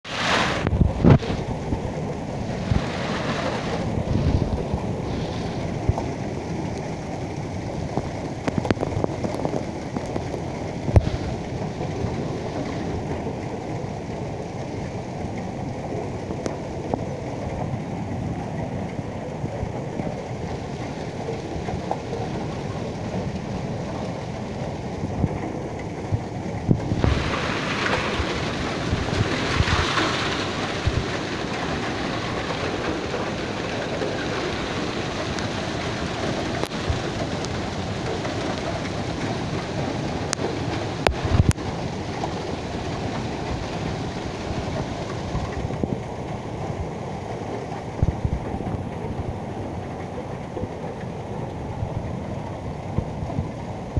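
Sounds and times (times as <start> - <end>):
hail pelting pavement: 0.1 - 53.9.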